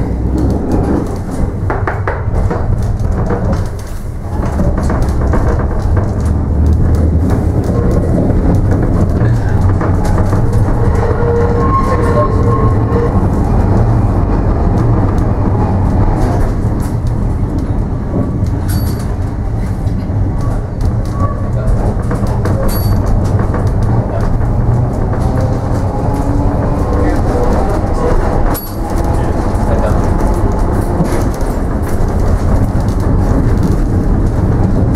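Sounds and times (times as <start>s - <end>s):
tram rumbling on track: 0.0s - 34.9s
wheel and body clicks and rattles: 0.0s - 34.9s.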